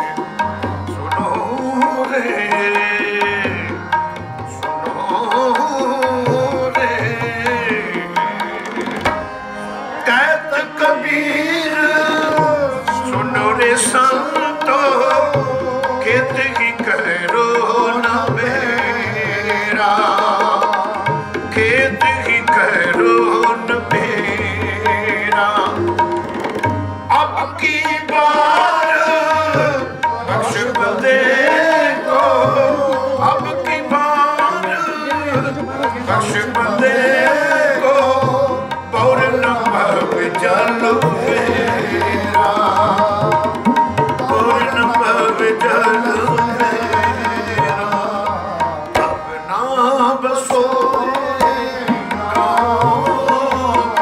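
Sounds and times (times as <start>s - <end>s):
voices singing: 0.0s - 26.1s, 26.7s - 54.0s
harmonium: 0.0s - 54.0s
tabla rhythm: 0.0s - 54.0s.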